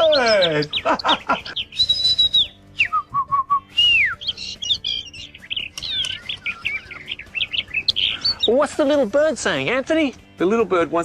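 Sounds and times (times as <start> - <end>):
small bird chirping and whistling: 0.0 - 8.9.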